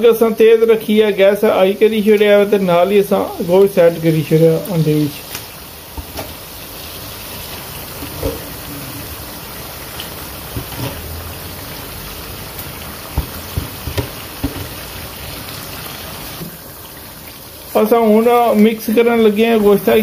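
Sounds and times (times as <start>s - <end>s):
food sizzling in a wok: 1.4s - 20.0s.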